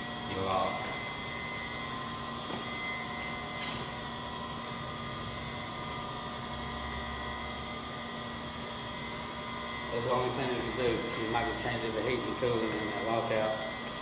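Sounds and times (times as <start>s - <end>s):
hvac equipment humming: 0.0s - 14.0s
steady whining tones: 0.0s - 14.0s.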